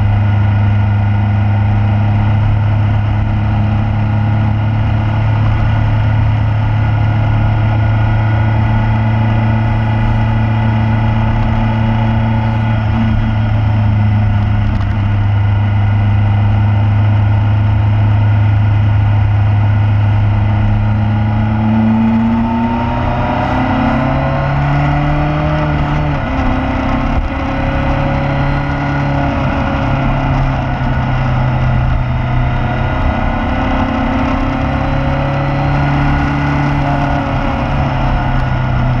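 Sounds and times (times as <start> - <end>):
motorcycle engine running: 0.0 - 39.0
wind and road noise: 0.0 - 39.0.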